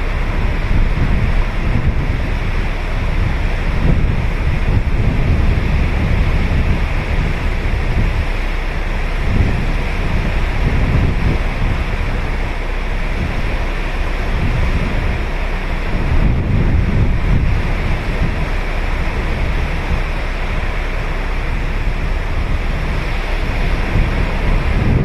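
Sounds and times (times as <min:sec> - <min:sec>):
ocean surf breaking on sand: 0:00.0 - 0:25.0
wind buffeting microphone: 0:00.0 - 0:25.0.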